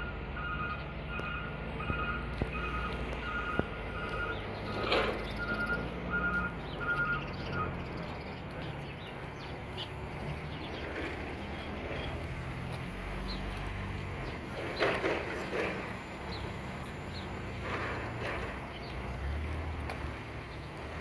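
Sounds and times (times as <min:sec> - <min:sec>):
truck reversing alarm beeping: 0:00.0 - 0:08.6, 0:10.8 - 0:21.0
truck engine running: 0:00.0 - 0:21.0.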